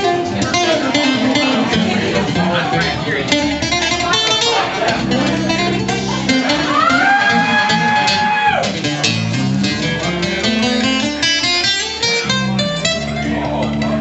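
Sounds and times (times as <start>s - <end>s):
country guitar playing: 0.0s - 14.0s
steady bass line: 0.0s - 14.0s.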